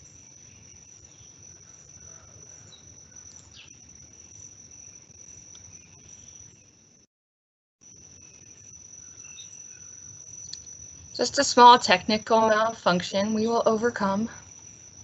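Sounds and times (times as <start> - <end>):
high-pitched insect chorus: 0.0 - 7.0, 7.8 - 15.0.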